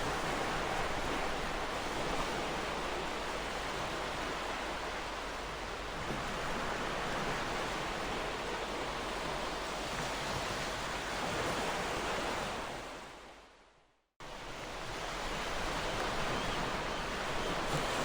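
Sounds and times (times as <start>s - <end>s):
waves breaking on shore: 0.0s - 13.3s, 14.2s - 18.0s.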